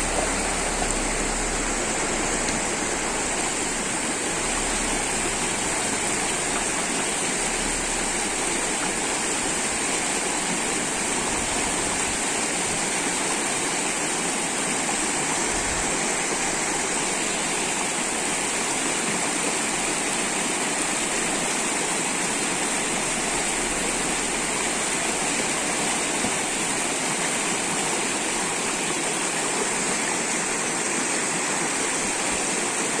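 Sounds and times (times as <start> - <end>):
stream rushing over stones: 0.0 - 33.0.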